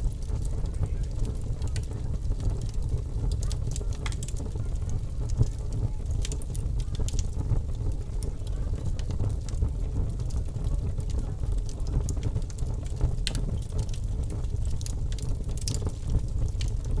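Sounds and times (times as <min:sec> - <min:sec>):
log fire crackling: 0:00.0 - 0:17.0
low fire rumble: 0:00.0 - 0:17.0.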